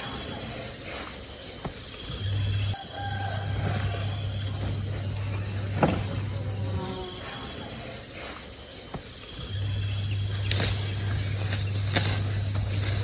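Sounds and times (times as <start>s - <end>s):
insects chirring: 0.0s - 13.0s
low steady hum: 1.9s - 13.0s.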